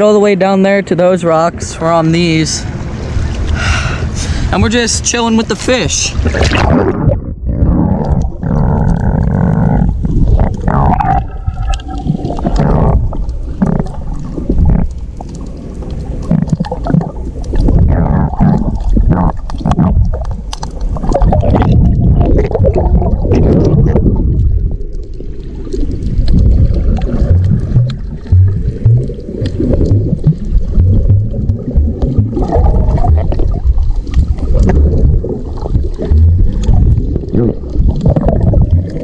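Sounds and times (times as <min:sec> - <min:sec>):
muffled water sloshing and bubbling: 0:00.0 - 0:39.0.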